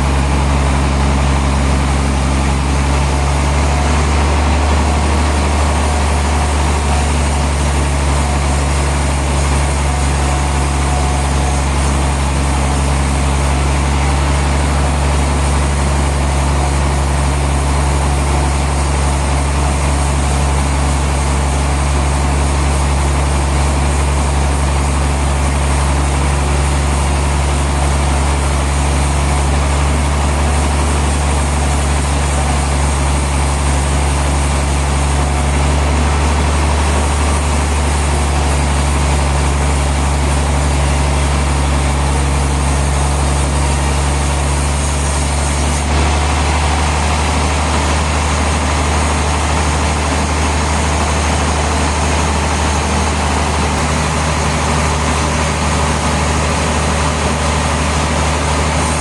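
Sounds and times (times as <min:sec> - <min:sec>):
sawmill machinery low drone: 0:00.0 - 0:59.0.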